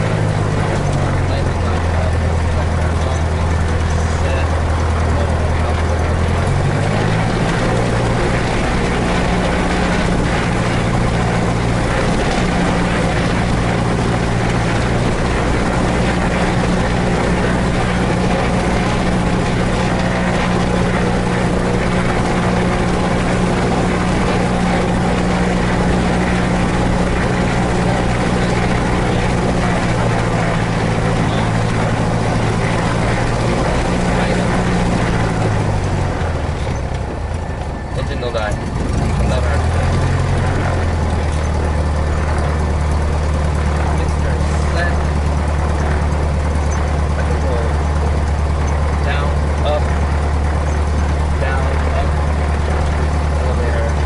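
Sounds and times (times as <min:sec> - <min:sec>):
aircraft engine and propeller: 0:00.0 - 0:54.0.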